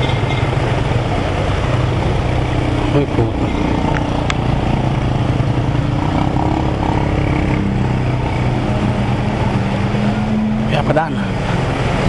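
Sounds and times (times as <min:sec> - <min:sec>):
churned water: 0:00.0 - 0:12.0
heavy rain: 0:00.0 - 0:12.0
motorcycle engine hum: 0:00.0 - 0:12.0.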